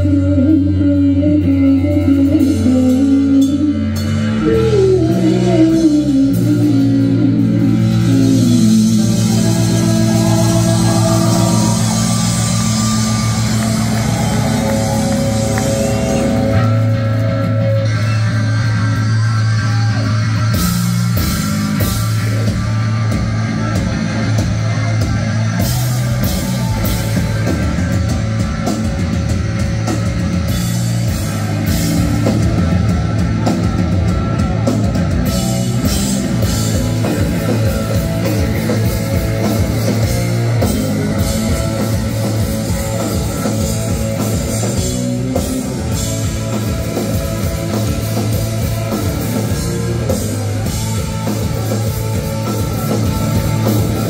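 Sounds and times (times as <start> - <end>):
distorted electric guitars: 0.0 - 54.0
driving drum kit: 0.0 - 54.0
punk band playing: 0.0 - 54.0.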